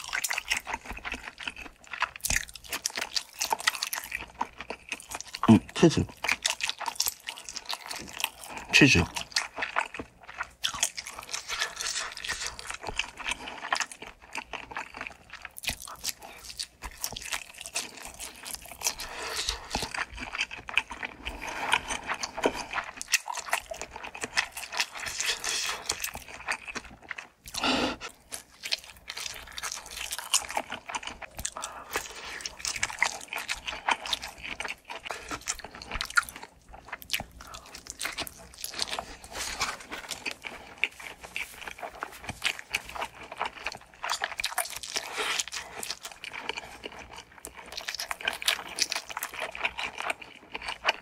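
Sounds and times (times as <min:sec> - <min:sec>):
crunchy food chewing: 0:00.0 - 0:51.0.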